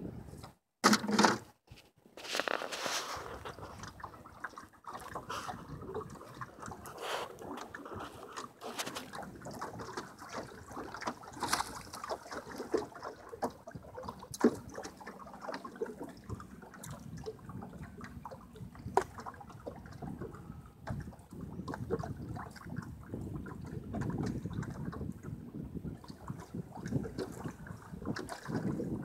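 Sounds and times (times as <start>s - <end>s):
water splashing and dripping: 3.2s - 29.0s.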